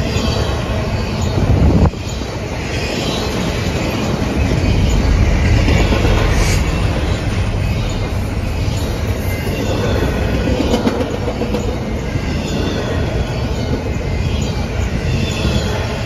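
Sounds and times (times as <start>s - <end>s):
diesel locomotive passing: 0.0s - 16.0s
freight train wheels rumbling on rail: 0.0s - 16.0s.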